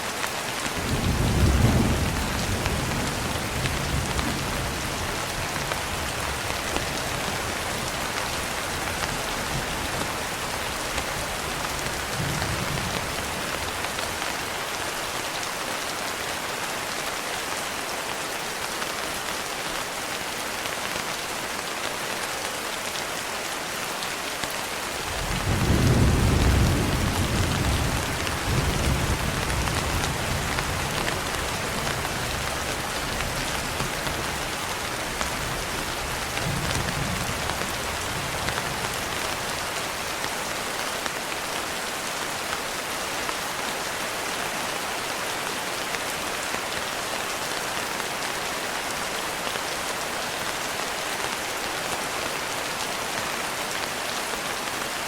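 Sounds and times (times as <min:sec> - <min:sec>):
rain pattering on a window: 0:00.1 - 0:48.7.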